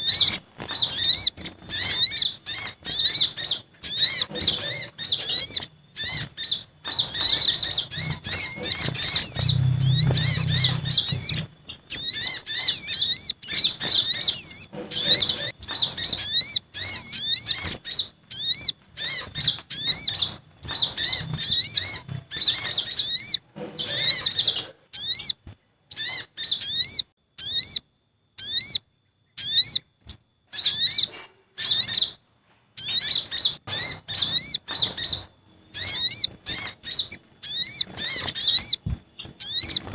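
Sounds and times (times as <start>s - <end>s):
sunbirds chirping sharply: 0.0s - 39.9s.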